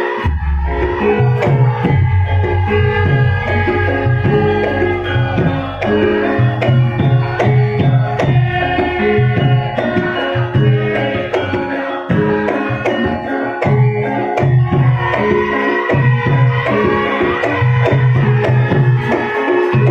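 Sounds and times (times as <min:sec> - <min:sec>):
ringing metallophone tones: 0:00.0 - 0:19.9.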